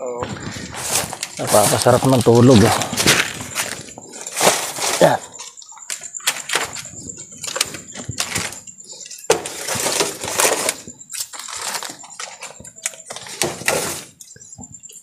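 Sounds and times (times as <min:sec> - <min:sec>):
goods clattering and knocking: 0:00.2 - 0:15.0.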